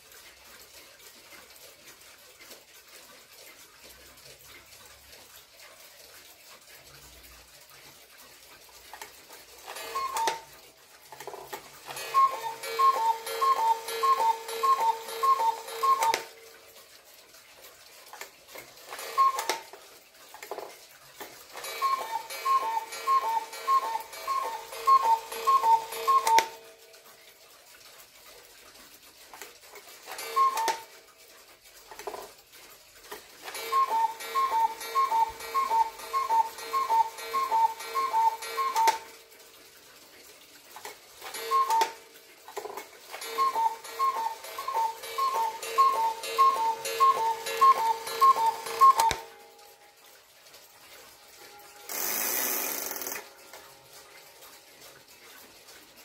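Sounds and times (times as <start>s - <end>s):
cuckoo clock calling: 0.0s - 56.0s.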